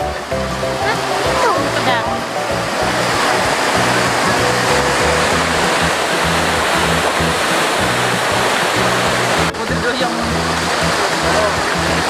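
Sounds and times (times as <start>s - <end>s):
background music with bass line: 0.0s - 12.0s
waterfall splashing onto rocks: 0.0s - 12.0s.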